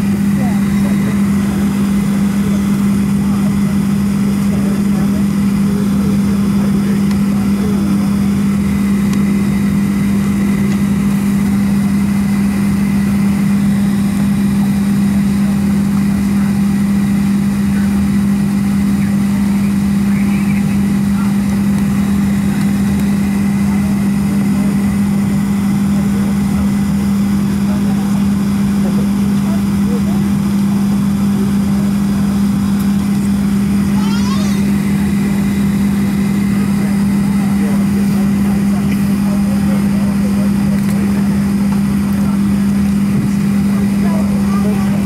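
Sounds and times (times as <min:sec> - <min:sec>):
aircraft cabin drone: 0:00.0 - 0:45.0.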